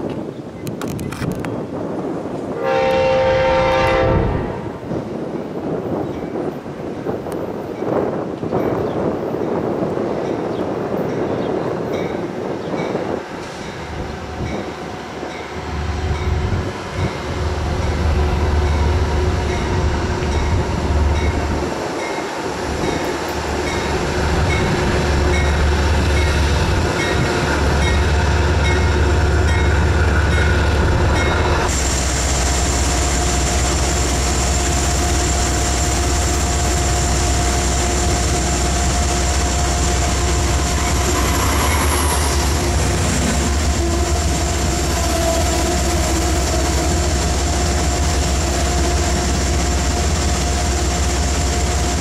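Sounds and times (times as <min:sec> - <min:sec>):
diesel locomotive hauling train: 0:00.0 - 0:52.0
train rumbling past: 0:01.6 - 0:52.0.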